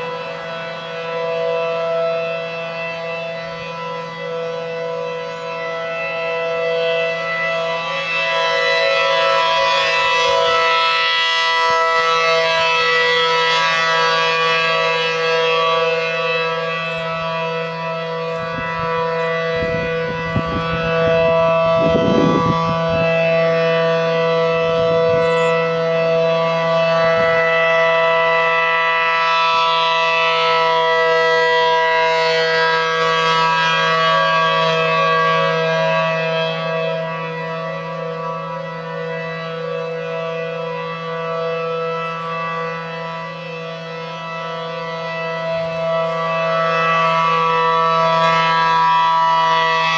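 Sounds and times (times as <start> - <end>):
mechanical warning siren chord: 0.0 - 49.9.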